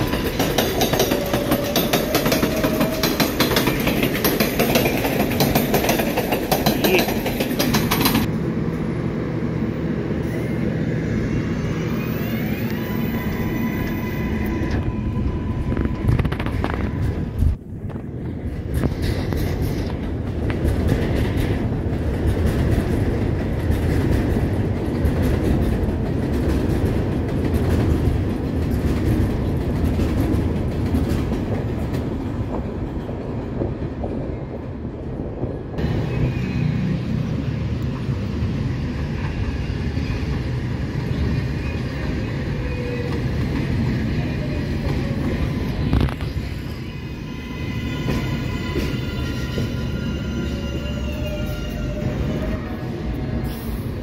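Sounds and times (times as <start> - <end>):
train pulling into platform: 0.0 - 54.0
train wheels rumbling on rail: 0.0 - 54.0.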